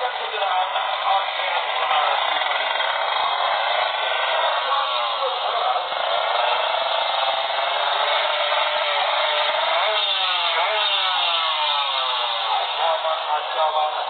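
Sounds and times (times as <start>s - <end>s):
motorcycle engines revving high: 0.0s - 14.0s.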